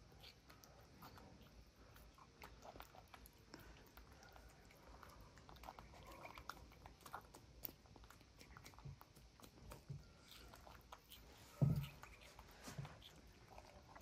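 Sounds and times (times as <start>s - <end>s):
monkeys crunching beans: 0.0s - 14.0s.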